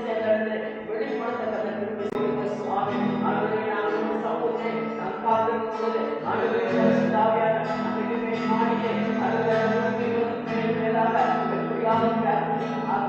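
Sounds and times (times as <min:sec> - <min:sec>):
person singing worship song: 0:00.0 - 0:13.0.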